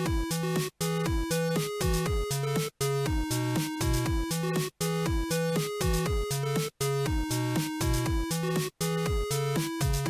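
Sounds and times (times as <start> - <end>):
upbeat electronic music: 0.0 - 10.0.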